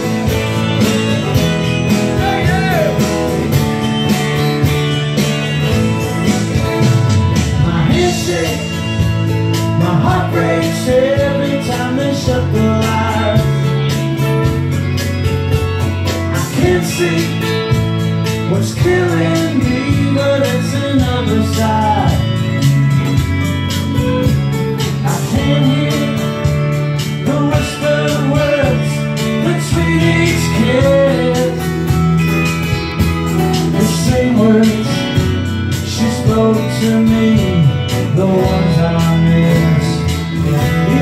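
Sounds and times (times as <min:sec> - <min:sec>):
man singing: 0:00.0 - 0:03.6, 0:05.9 - 0:14.8, 0:16.1 - 0:22.8, 0:24.2 - 0:32.3, 0:33.4 - 0:41.0
acoustic guitars strumming: 0:00.0 - 0:41.0.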